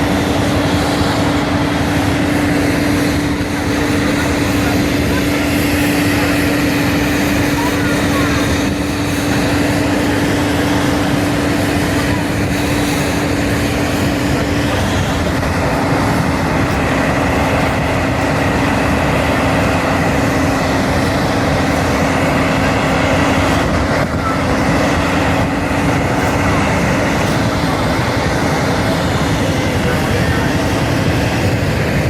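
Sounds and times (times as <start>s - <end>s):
aircraft engines running: 0.0s - 32.0s.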